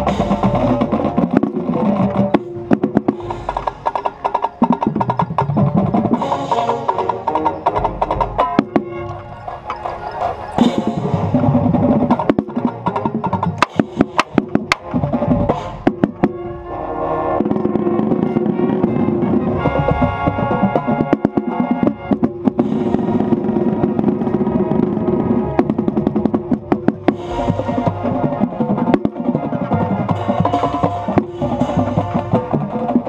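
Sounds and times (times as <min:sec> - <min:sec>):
horns holding chords: 0:00.0 - 0:33.0.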